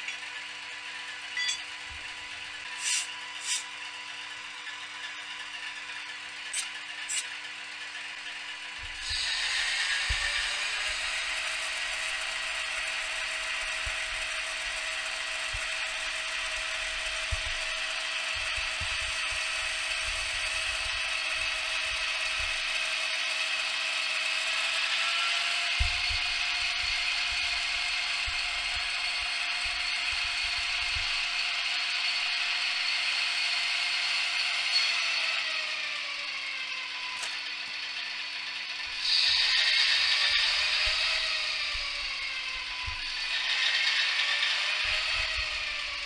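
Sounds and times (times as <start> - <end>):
model locomotive diesel engine sound: 0.0 - 46.0
whir of model mechanism: 1.4 - 46.0.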